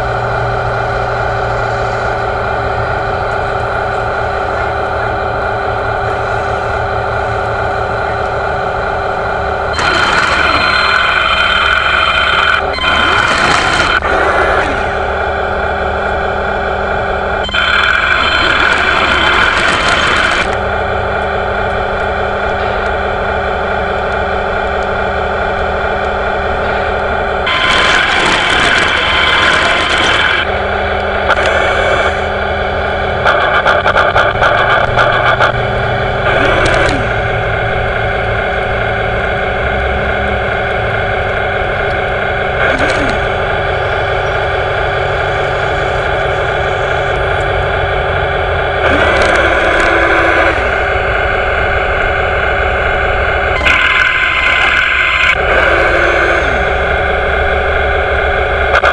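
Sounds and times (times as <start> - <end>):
dense clicking: 0.0 - 58.9
model tank motor droning: 0.0 - 58.9.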